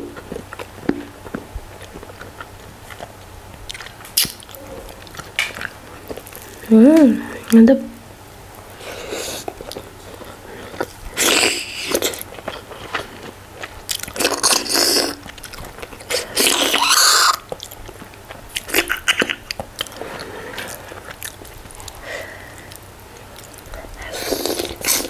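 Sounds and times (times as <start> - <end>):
chewing and wet mouth sounds: 0.0 - 6.7, 8.8 - 25.0.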